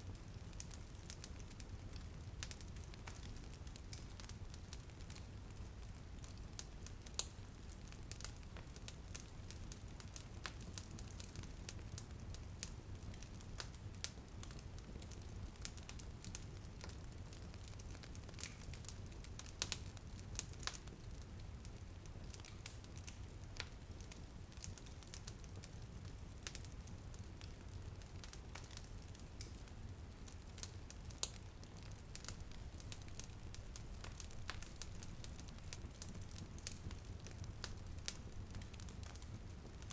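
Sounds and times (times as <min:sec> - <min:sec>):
light rain on a window: 0:00.0 - 0:39.9
wood fire crackling and popping: 0:00.0 - 0:39.9.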